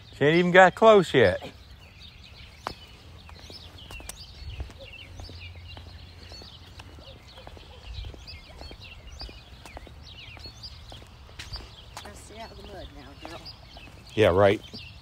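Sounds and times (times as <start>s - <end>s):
footsteps on pavement: 0.0s - 15.0s
small birds chirping: 0.0s - 15.0s.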